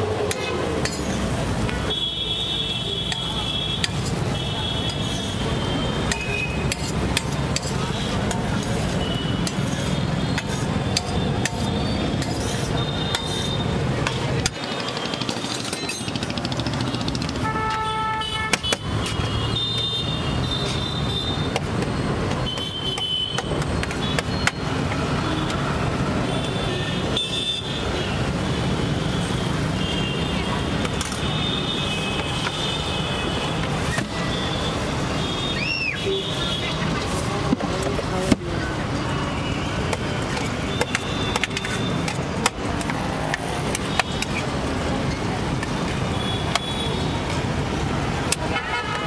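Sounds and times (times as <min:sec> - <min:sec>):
street traffic noise: 0:00.0 - 0:49.0.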